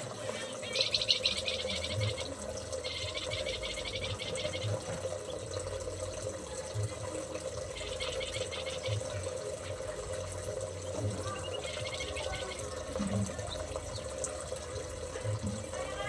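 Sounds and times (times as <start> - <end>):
running water: 0.0 - 16.0
small birds chirping: 0.2 - 5.6, 6.7 - 15.0.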